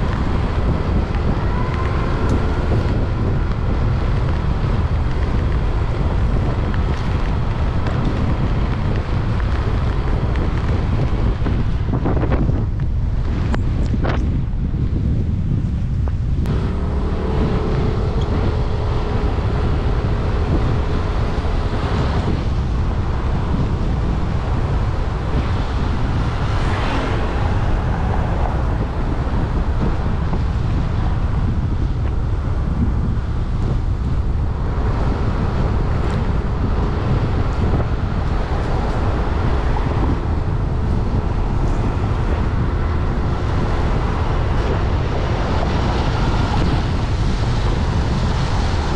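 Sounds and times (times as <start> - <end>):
vehicles passing: 0.0 - 48.9
wind buffeting microphone: 0.0 - 48.9.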